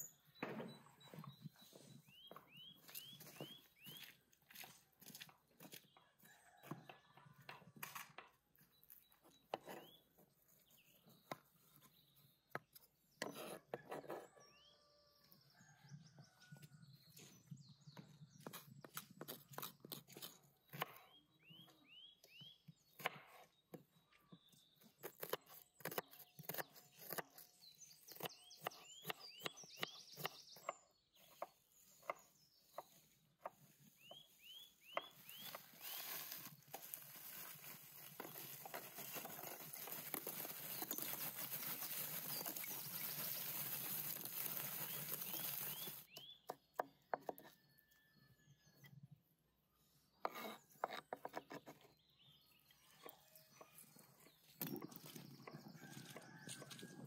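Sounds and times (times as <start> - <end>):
small bird singing: 0.0 - 4.2, 8.6 - 13.5, 14.2 - 57.0.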